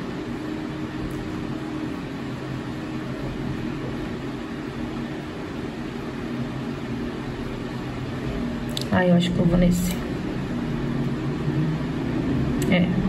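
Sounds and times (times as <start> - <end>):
low droning tones: 0.0 - 13.0
mechanical hum and whir: 0.0 - 13.0.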